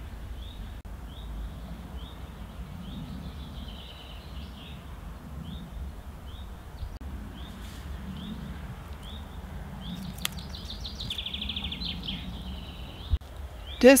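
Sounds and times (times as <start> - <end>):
low steady rumble: 0.0 - 14.0
small bird chirping: 0.4 - 14.0.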